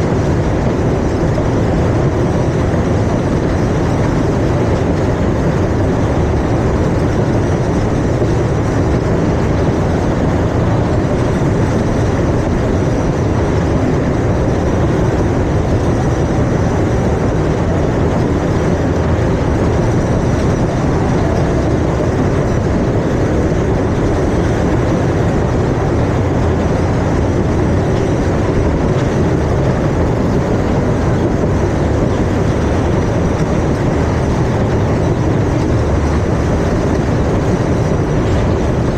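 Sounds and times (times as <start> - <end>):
ride rumbling and rushing: 0.0 - 38.9.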